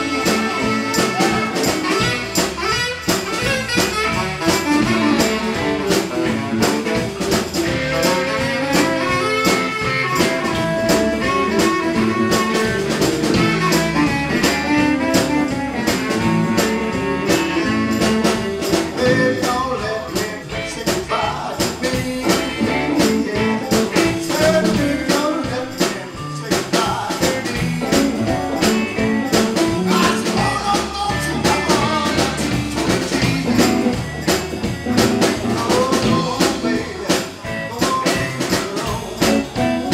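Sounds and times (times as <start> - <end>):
harmonica: 0.0 - 19.8, 27.6 - 39.9
electric blues band playing: 0.0 - 39.9.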